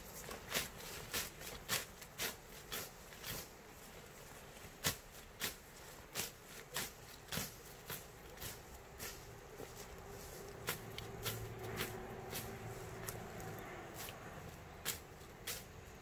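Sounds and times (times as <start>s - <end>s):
plants rustling as weeds pulled: 0.0s - 16.0s.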